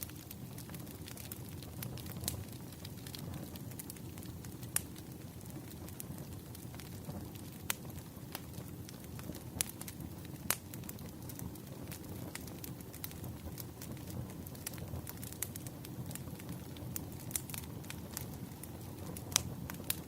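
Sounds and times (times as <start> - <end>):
bonfire flames rushing: 0.0 - 20.0
fire crackles and pops: 0.0 - 20.0.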